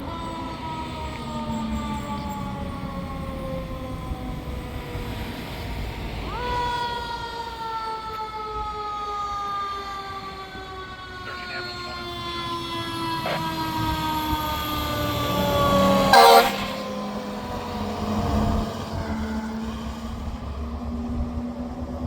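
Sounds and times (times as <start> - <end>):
fire engine siren: 0.0 - 22.0.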